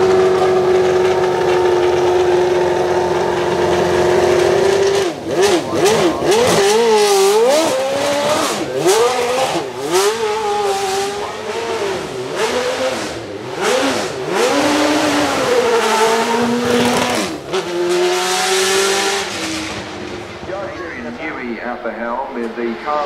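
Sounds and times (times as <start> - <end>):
racing car engine revving: 0.0 - 23.0.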